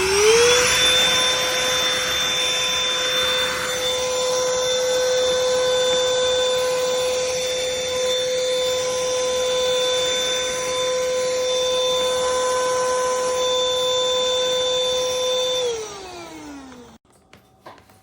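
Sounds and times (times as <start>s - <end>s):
vacuum motor spinning down: 0.0s - 17.0s
handheld vacuum whining: 0.0s - 17.5s.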